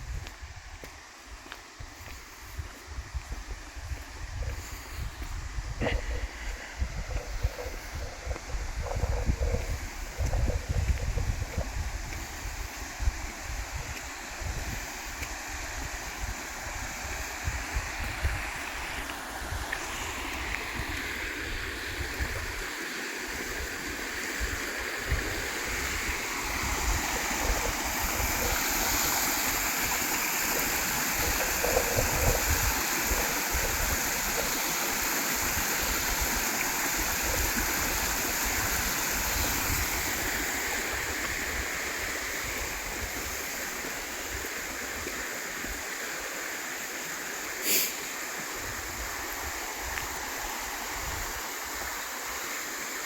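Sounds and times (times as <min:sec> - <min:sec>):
river flowing: 0:00.3 - 0:53.0.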